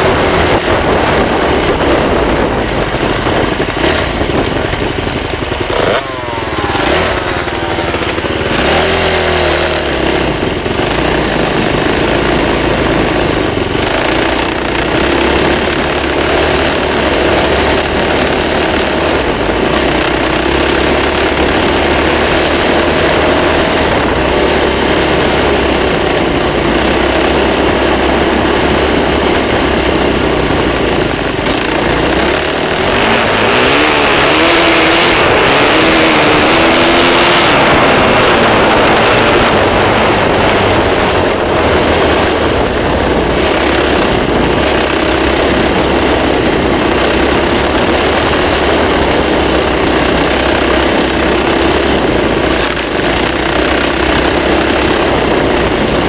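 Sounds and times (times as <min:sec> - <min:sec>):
loud steady rushing noise: 0:00.0 - 0:56.0
motorbike engine running: 0:00.0 - 0:56.0.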